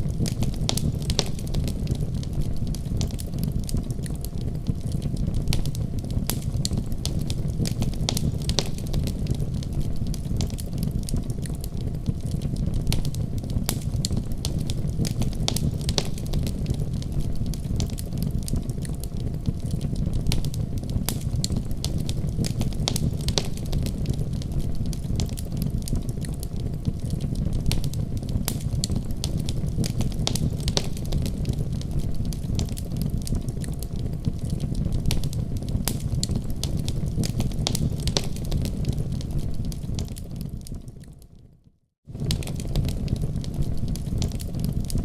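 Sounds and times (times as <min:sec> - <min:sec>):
wood fire crackling: 0:00.0 - 0:41.5, 0:42.1 - 0:45.0.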